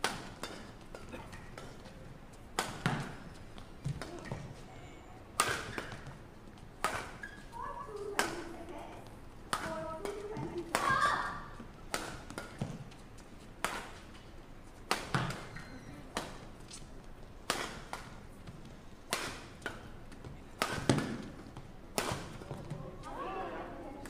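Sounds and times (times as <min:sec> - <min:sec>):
rackets striking shuttlecock: 0:00.0 - 0:04.6, 0:05.4 - 0:08.6, 0:09.5 - 0:13.0, 0:13.6 - 0:14.2, 0:14.9 - 0:22.8.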